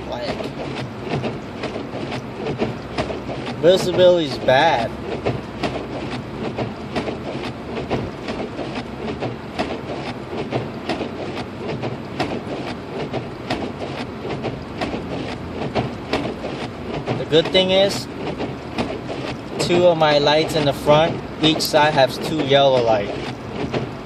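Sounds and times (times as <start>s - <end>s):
car driving on snow rumble: 0.0s - 24.0s
turn signal ticking: 0.0s - 24.0s.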